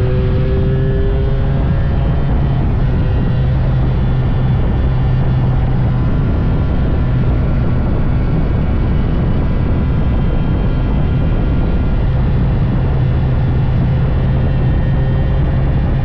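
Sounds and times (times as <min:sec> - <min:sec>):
broad rushing noise: 0:00.0 - 0:16.0
motorcycle engine hum: 0:00.0 - 0:16.0.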